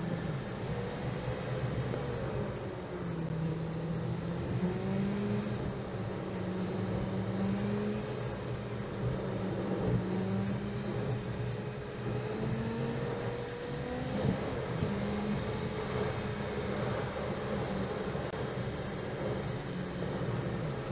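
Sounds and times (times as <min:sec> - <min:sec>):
car engine drone: 0:00.0 - 0:20.9
tyre road noise: 0:00.0 - 0:20.9.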